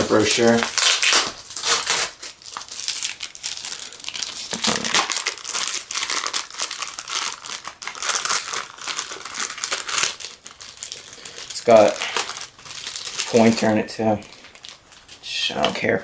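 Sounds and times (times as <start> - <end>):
packaging paper crinkling: 0.0 - 16.0.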